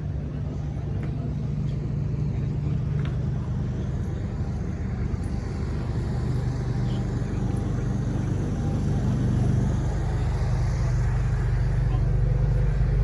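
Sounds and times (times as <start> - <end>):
car engine idling: 1.4 - 13.0.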